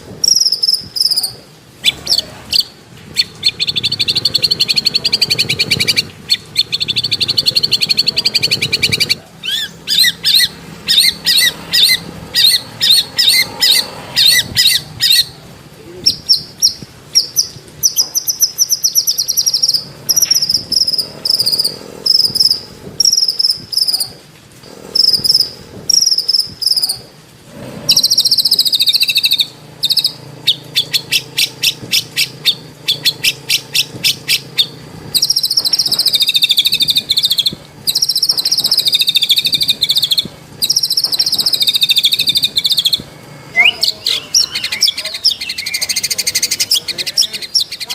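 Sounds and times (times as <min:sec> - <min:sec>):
bird singing: 0:00.2 - 0:24.2, 0:27.9 - 0:47.9.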